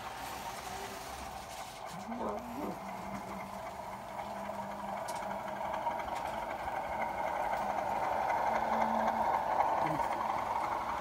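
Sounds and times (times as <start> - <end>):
model train humming and whirring: 0.0 - 11.0.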